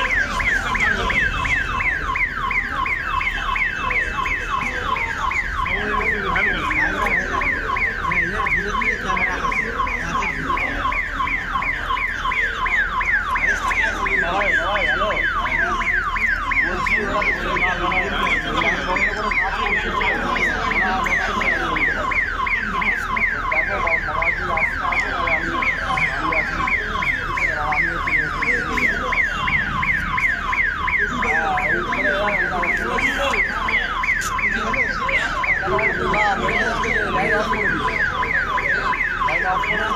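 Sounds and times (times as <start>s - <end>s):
crowd voices: 0.0s - 39.9s
electronic warning siren whooping: 0.0s - 39.9s.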